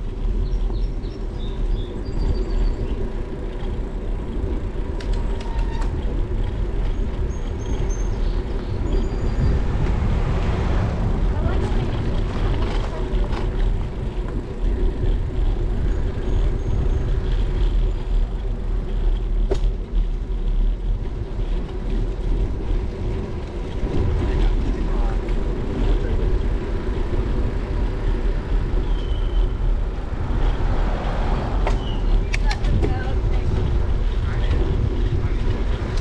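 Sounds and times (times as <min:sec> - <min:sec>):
wind and road noise rumble: 0:00.0 - 0:36.0.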